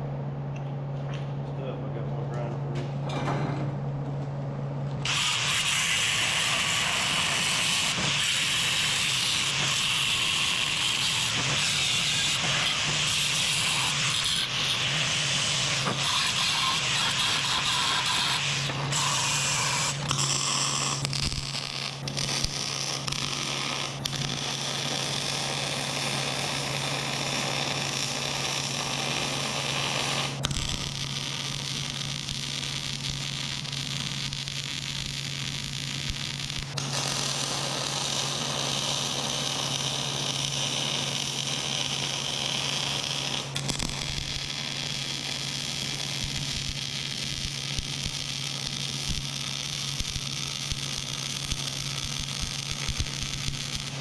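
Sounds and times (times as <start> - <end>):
low welder hum: 0.0 - 54.0
welding arc hissing and crackling: 5.0 - 54.0.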